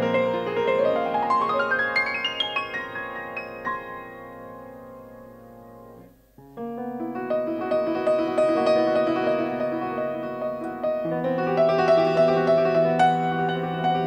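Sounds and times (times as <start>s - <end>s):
jazz piano: 0.0s - 14.0s.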